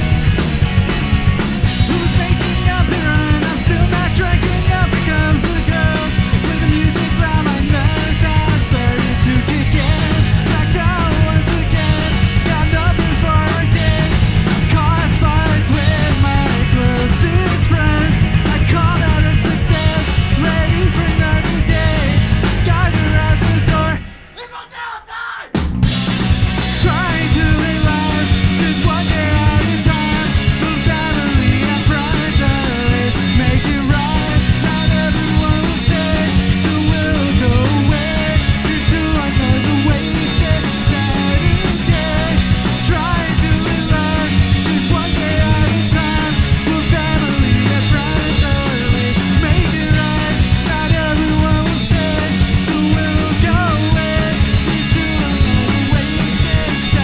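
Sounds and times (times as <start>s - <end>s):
electric guitar: 0.0s - 24.4s, 25.6s - 57.0s
drums: 0.0s - 57.0s
man singing: 1.6s - 25.6s, 26.6s - 57.0s.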